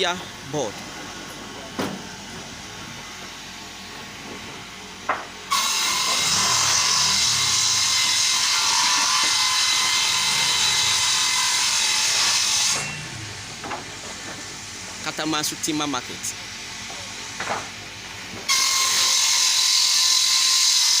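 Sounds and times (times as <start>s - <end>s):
woodworking machine cutting timber: 0.0s - 21.0s.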